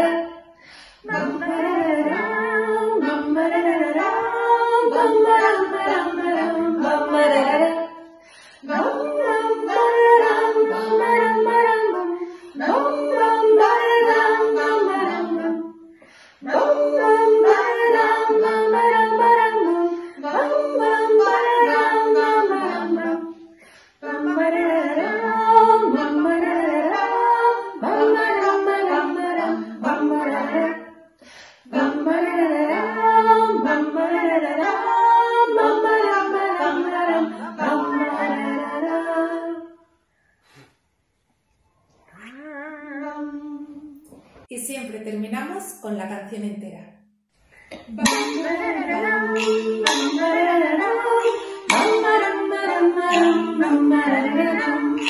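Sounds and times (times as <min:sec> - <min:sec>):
women singing together: 0:00.0 - 0:40.6, 0:42.1 - 0:46.1, 0:47.6 - 0:55.0.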